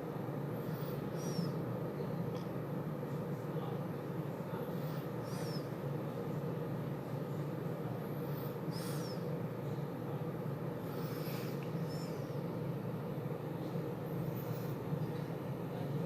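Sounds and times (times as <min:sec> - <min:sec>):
low city hum: 0:00.0 - 0:16.0.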